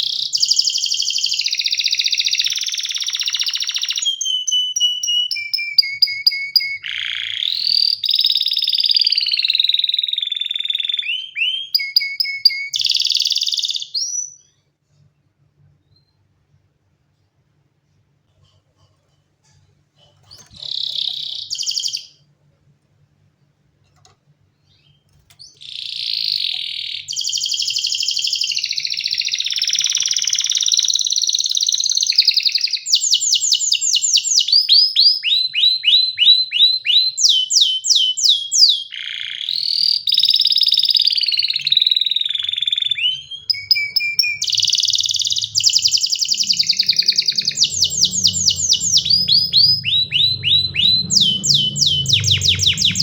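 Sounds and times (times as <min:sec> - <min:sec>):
canary singing: 0:00.0 - 0:14.6, 0:20.1 - 0:22.3, 0:24.6 - 0:53.0.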